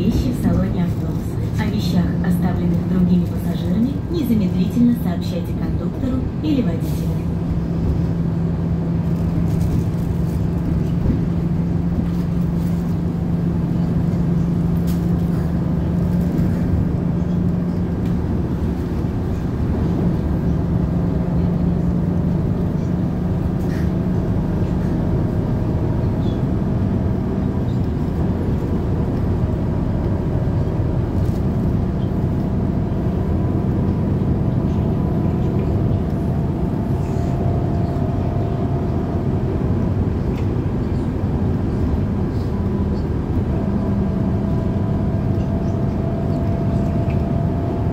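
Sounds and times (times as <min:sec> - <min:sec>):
bus engine low hum: 0:00.0 - 0:47.9
road rumble: 0:00.0 - 0:47.9.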